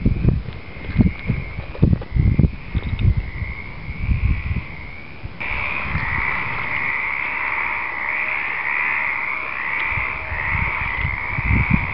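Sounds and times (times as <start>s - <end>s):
chorus of frogs calling: 0.6s - 11.9s.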